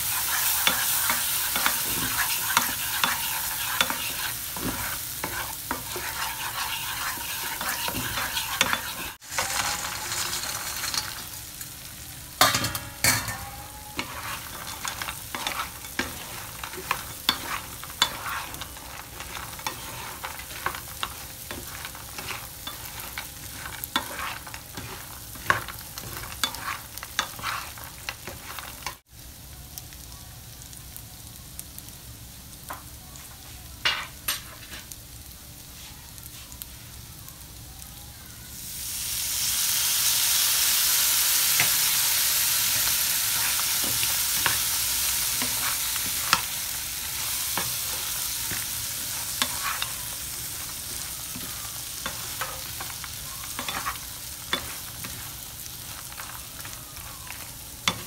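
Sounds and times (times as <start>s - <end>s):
sauce sizzling in a pan: 0.0s - 58.0s.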